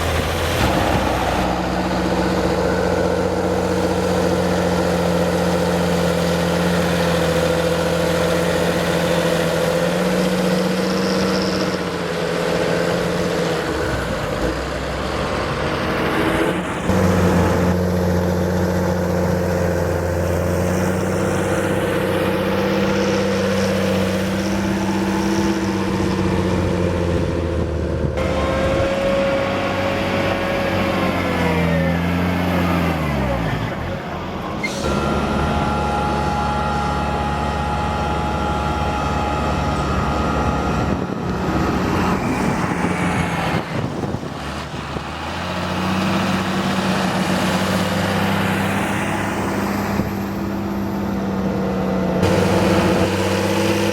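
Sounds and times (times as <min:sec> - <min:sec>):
tractor diesel engine working hard: 0:00.0 - 0:53.9.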